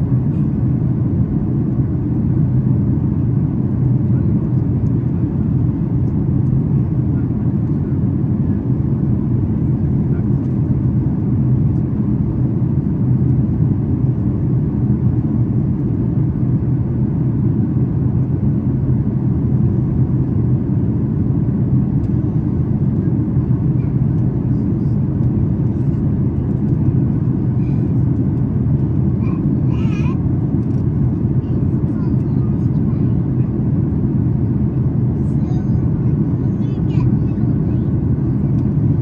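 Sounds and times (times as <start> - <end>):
jet engines at climb power: 0.0 - 39.0.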